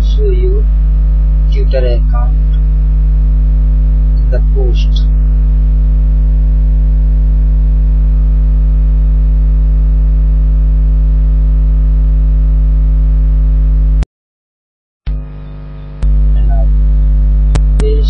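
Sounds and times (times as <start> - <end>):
electrical mains hum: 0.0 - 14.0, 15.1 - 18.0.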